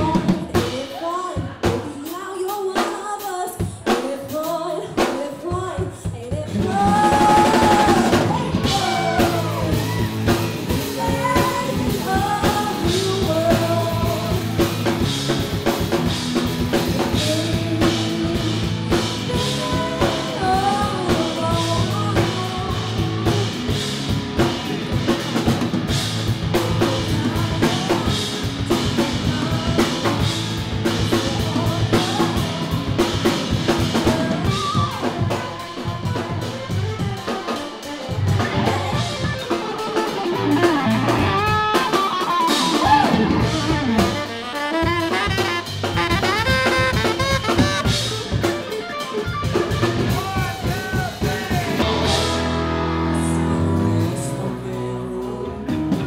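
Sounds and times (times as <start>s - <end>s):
person singing: 0.0s - 15.1s, 16.8s - 24.7s, 26.4s - 48.8s, 49.5s - 56.0s
bass: 0.0s - 56.0s
drum kit beat: 0.0s - 56.0s
electric guitar: 6.4s - 56.0s.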